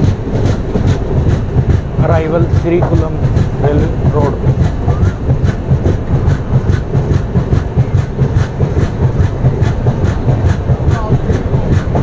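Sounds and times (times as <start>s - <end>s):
train coaches rumbling: 0.0s - 12.0s.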